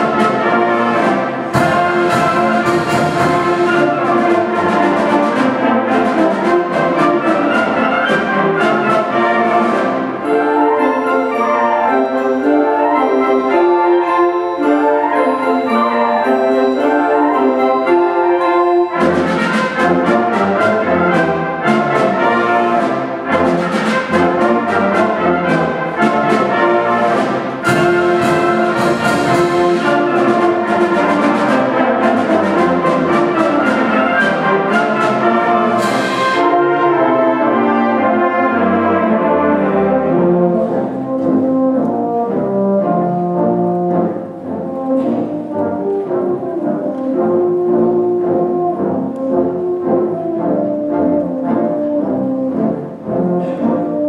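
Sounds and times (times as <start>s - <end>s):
wind band playing: 0.0s - 54.0s.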